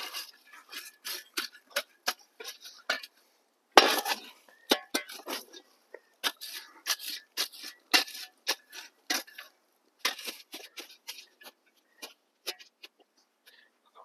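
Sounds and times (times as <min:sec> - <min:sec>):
shovel scraping coals and dirt: 0:00.0 - 0:13.7.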